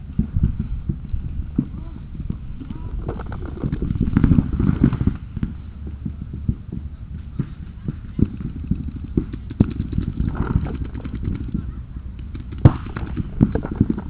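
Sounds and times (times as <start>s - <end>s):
low handling rumble: 0.0s - 14.0s
camera being jostled thumps: 1.6s - 14.0s.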